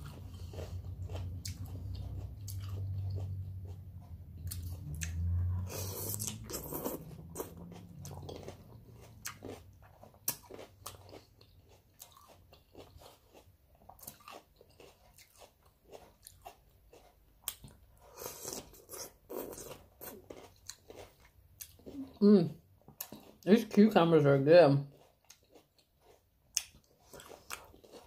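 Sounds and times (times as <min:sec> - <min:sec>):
person chewing cucumber: 0:00.0 - 0:23.7, 0:24.8 - 0:28.0.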